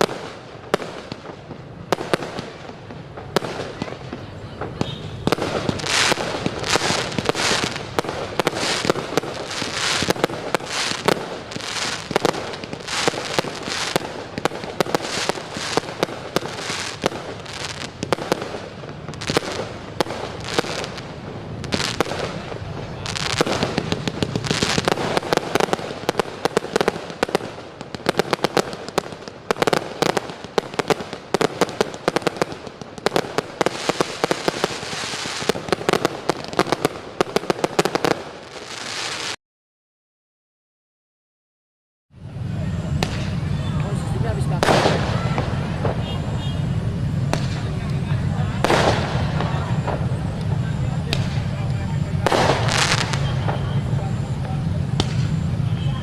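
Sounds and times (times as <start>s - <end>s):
fireworks popping and crackling: 0.0s - 39.4s, 42.2s - 56.0s.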